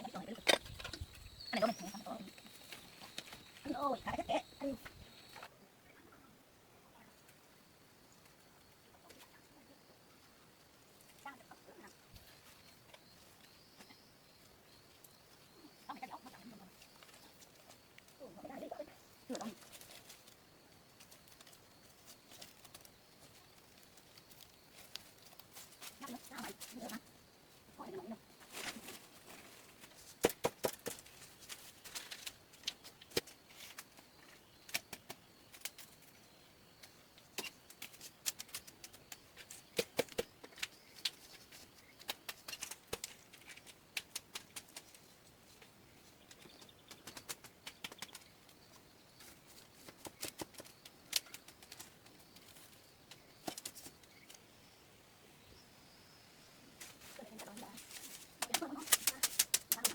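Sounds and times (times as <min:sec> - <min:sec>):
faint steady background noise: 0:00.0 - 0:59.9.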